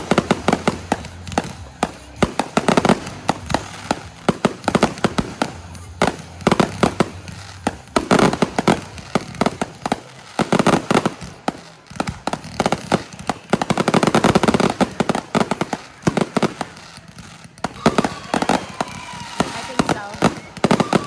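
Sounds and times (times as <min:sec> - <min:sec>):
fireworks popping and crackling: 0:00.0 - 0:21.0.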